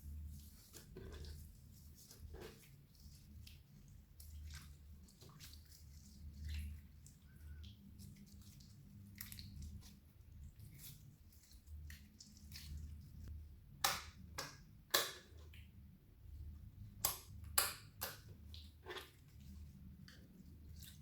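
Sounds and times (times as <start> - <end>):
slime squishing with wet pops: 0.3 - 15.9, 16.7 - 21.0.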